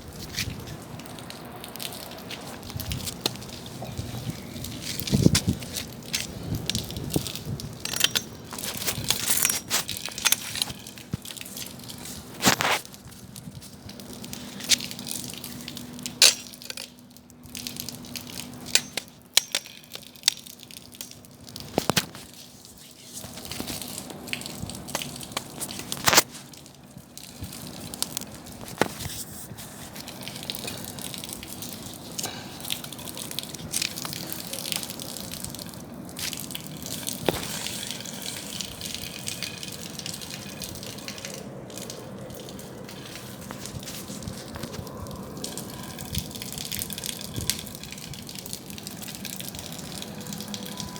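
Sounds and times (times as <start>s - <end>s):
bonfire crackling and popping: 0.0s - 50.9s.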